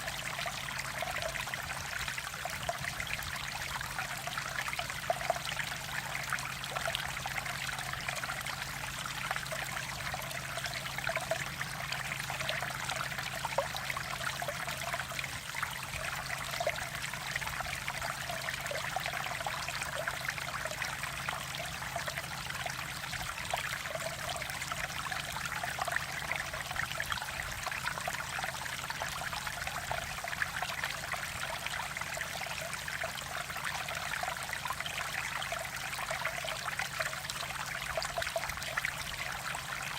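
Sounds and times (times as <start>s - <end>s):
stream burbling over rocks: 0.0s - 39.9s.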